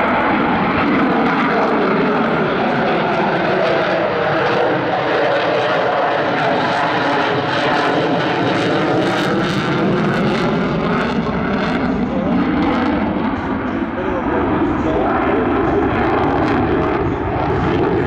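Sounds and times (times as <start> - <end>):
jet engine roar in flight: 0.0 - 18.0.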